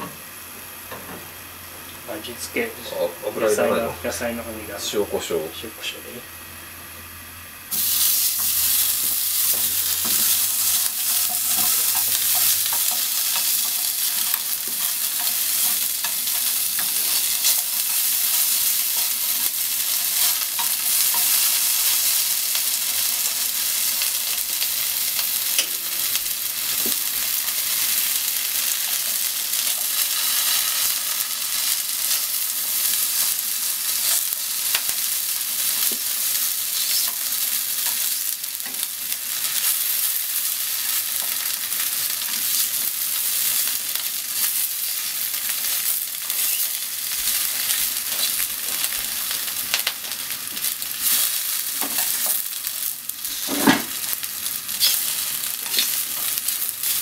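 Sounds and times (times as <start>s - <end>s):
ham sizzling in a frying pan: 0.0s - 57.0s.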